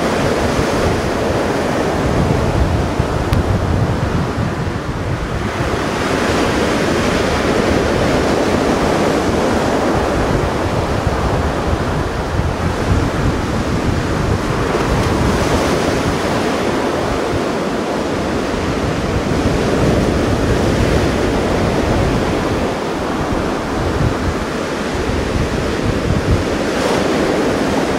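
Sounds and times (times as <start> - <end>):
surf washing on shore: 0.0 - 27.9
wind buffeting microphone: 0.0 - 27.9.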